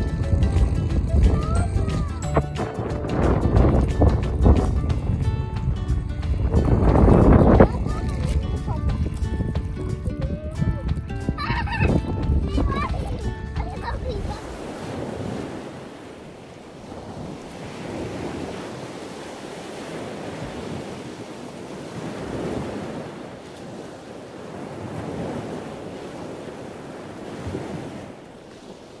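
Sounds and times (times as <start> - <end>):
wind blowing over microphone: 0.0 - 29.0.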